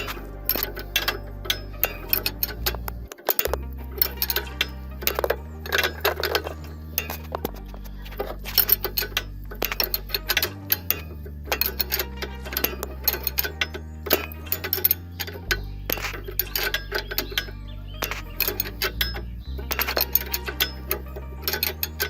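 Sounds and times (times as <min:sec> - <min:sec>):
wrench clicking on metal nut: 0:00.0 - 0:07.4, 0:08.1 - 0:22.0
background music with bass line: 0:00.0 - 0:22.0.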